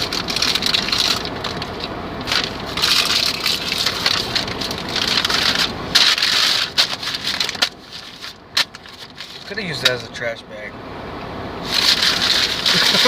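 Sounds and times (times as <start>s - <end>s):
paper packaging crumpling: 0.0s - 9.6s, 11.7s - 13.0s
car road noise rumble: 0.0s - 13.0s.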